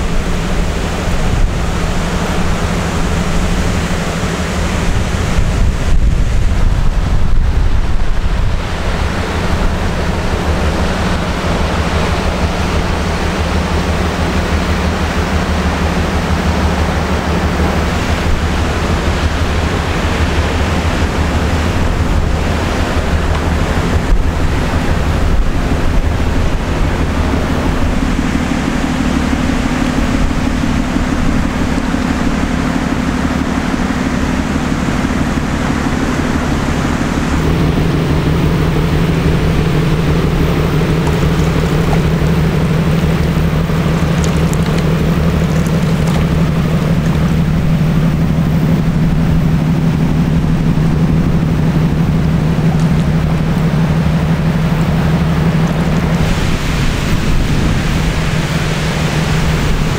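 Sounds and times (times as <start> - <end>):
low hum: 0.0 - 59.9
ship engine drone: 0.0 - 59.9
wind on microphone: 0.0 - 59.9.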